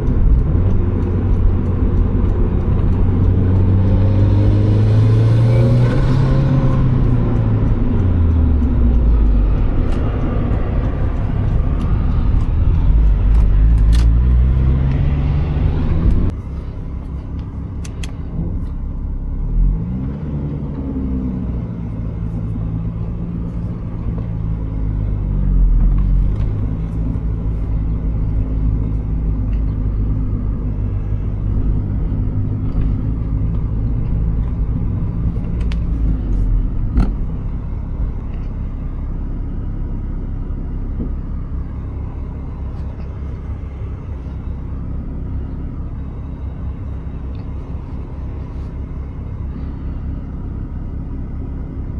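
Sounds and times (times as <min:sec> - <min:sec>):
car engine accelerating: 0:00.0 - 0:51.9
low road rumble: 0:00.0 - 0:51.9.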